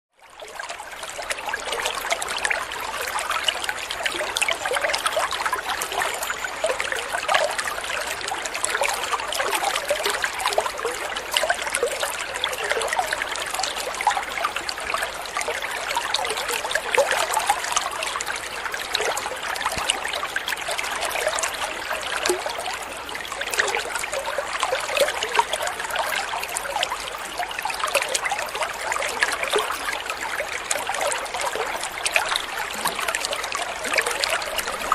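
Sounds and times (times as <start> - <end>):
shallow water trickling and splashing: 0.2 - 34.9.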